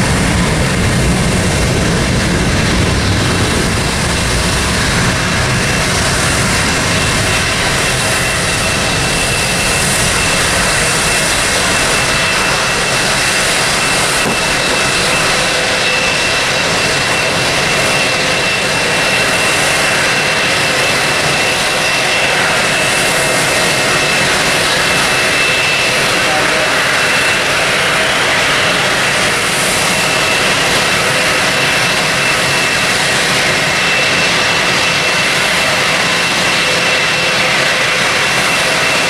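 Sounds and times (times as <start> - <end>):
jet engines roaring with whine: 0.0 - 39.0.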